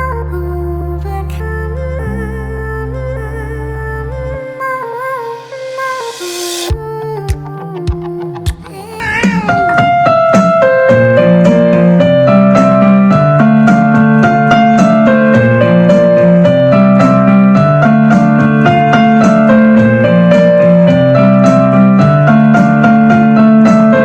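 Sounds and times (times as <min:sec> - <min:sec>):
piano music with bass line: 0:00.0 - 0:24.0.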